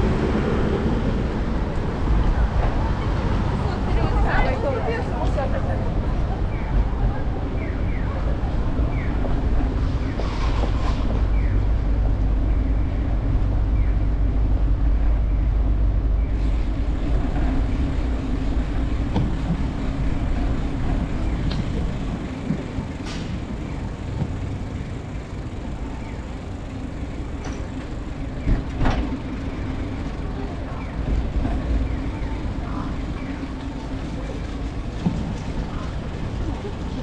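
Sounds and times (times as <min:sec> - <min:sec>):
low rumble of city traffic: 0:00.0 - 0:37.0.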